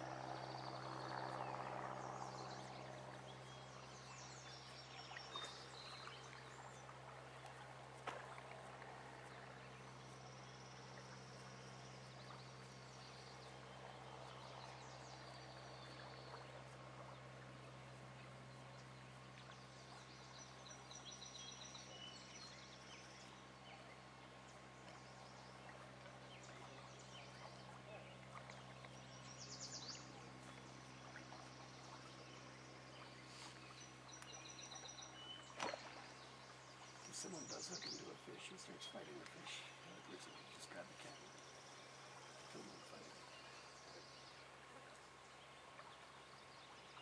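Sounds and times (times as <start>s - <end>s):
steady low hum: 0.0s - 47.0s
small birds chirping: 9.1s - 47.0s.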